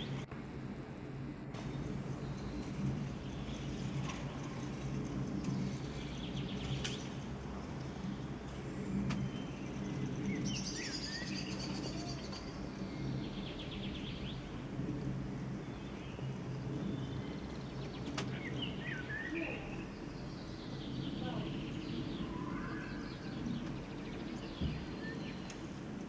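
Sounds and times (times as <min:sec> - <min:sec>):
low background hum: 0:00.0 - 0:26.0
small birds chirping: 0:01.6 - 0:26.0.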